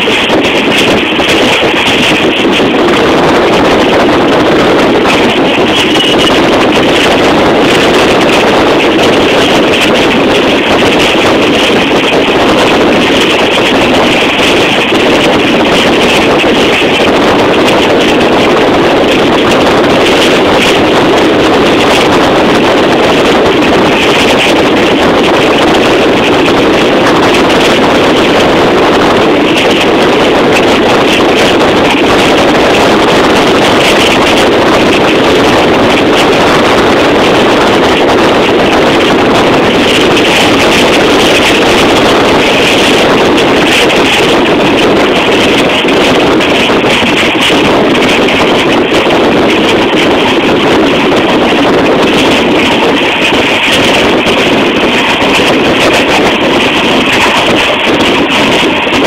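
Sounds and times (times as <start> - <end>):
moving train rushing: 0.0 - 59.0
wind buffeting microphone: 0.0 - 59.0.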